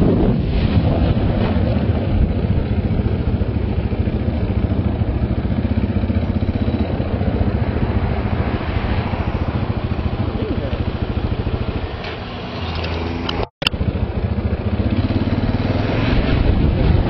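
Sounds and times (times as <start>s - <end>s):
motorcycle engine running: 0.9s - 17.0s.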